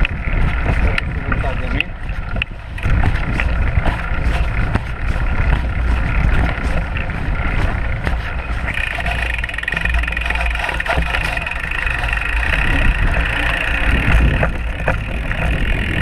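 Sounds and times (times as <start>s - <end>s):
bike rattling over bumps: 0.0s - 16.0s
bike tyre and frame noise: 0.0s - 16.0s
steady higher hum: 0.0s - 16.0s
wind rumble on microphone: 0.0s - 16.0s.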